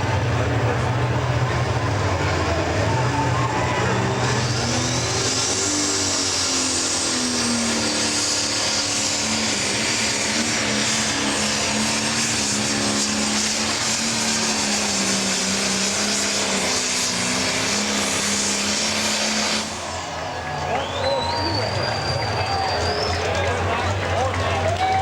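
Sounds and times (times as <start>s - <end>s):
diesel engine at high revs: 0.0s - 25.0s.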